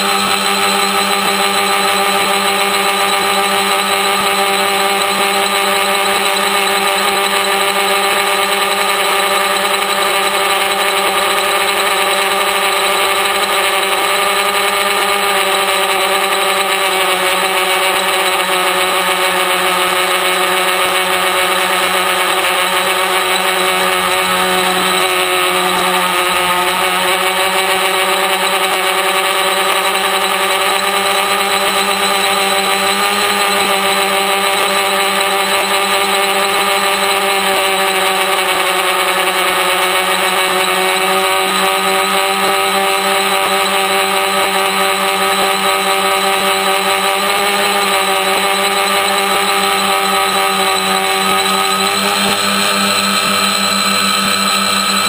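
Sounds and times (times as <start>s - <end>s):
drone motors and propellers whining: 0.0s - 55.0s.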